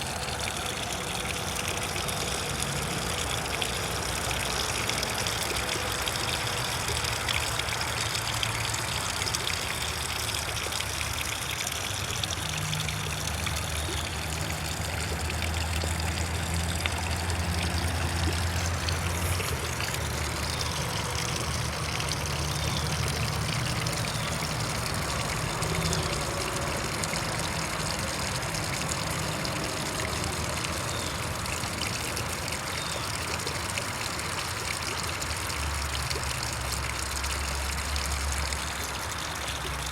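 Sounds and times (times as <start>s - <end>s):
low motor hum: 0.0s - 34.7s
water trickling: 0.0s - 39.9s.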